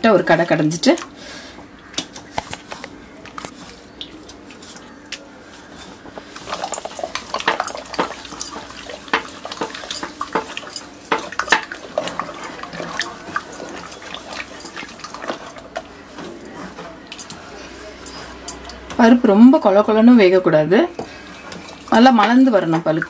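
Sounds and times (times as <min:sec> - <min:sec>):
wet squelching of mashing: 0:01.0 - 0:18.9, 0:20.8 - 0:23.0.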